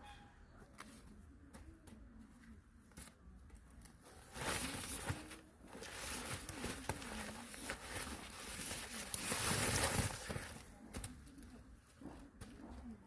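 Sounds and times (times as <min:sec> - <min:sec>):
rustling and crackling: 0:00.8 - 0:13.0.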